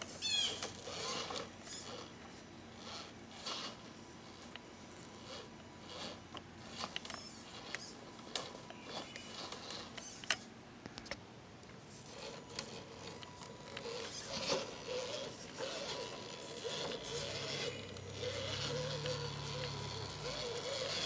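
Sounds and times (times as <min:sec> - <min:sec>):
electric motor whining: 0:00.0 - 0:10.4, 0:11.9 - 0:21.0
tyres clicking and scraping on stone: 0:02.8 - 0:11.2, 0:12.0 - 0:21.0.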